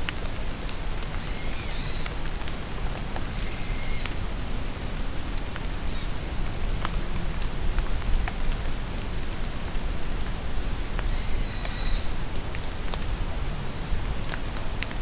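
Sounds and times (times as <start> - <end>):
raindrops tapping: 0.0 - 4.2, 4.9 - 15.0
steady rain in a forest: 0.0 - 15.0.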